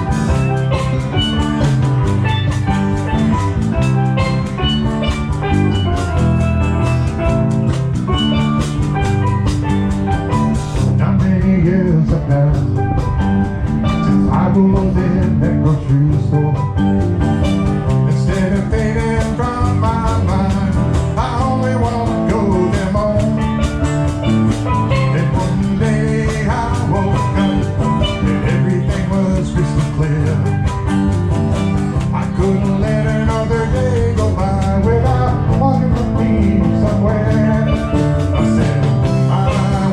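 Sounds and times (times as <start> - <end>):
bass guitar: 0.0 - 39.9
drum kit: 0.0 - 39.9
guitar: 0.0 - 39.9
steel drums: 0.0 - 39.9.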